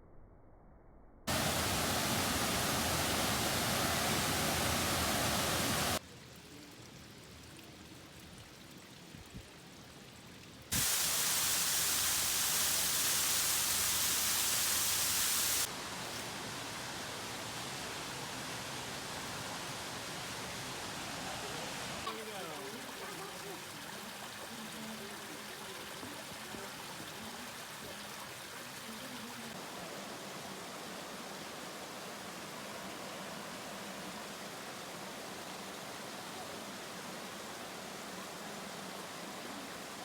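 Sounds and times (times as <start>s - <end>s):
rushing water: 1.3s - 40.0s.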